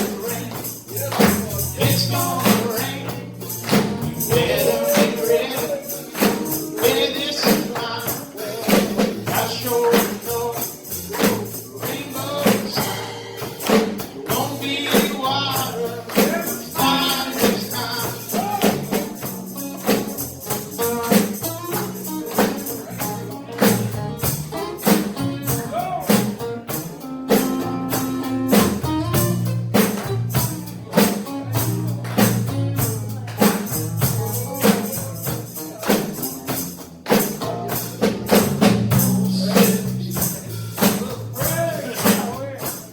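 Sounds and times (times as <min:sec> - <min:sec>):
chopped voice fragments: 0:00.0 - 0:24.0, 0:29.7 - 0:42.9.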